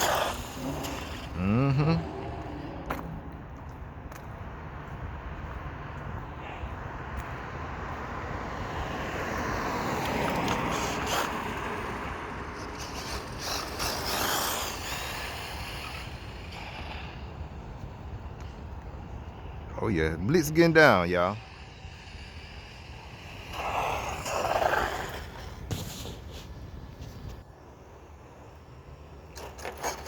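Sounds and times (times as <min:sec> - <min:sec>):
rc truck driving: 0:00.0 - 0:04.7, 0:06.4 - 0:30.0.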